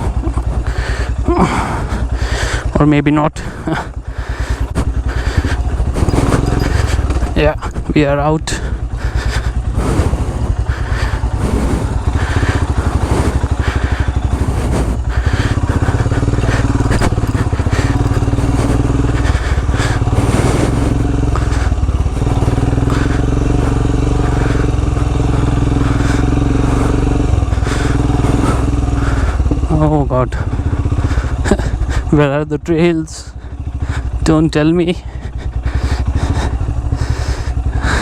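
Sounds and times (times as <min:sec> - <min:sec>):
knocks and rattles from motorcycle: 0:00.0 - 0:38.0
motorcycle engine running: 0:00.0 - 0:38.0.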